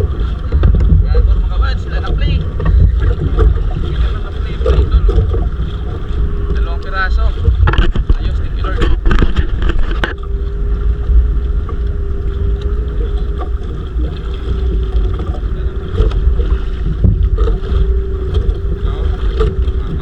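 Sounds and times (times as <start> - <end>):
steady low hum: 0.0 - 20.0
wind buffeting microphone: 0.0 - 20.0.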